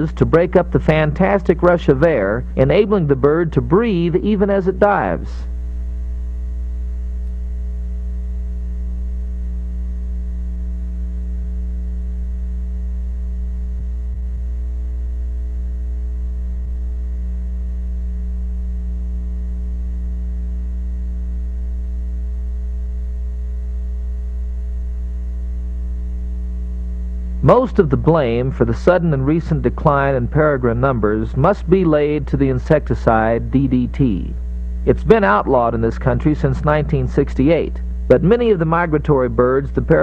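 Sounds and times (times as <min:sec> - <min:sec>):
low electrical mains hum: 0:00.0 - 0:40.0.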